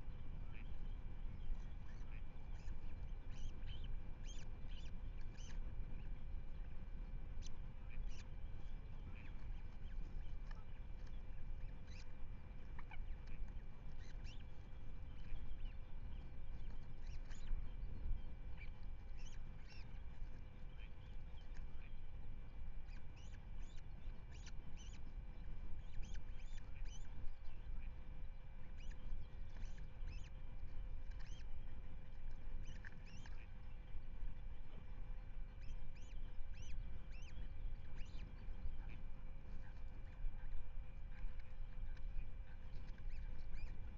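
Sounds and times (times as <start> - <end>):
bird calls and chirps: 0.0 - 43.9
wind rumble on microphone: 0.0 - 43.9.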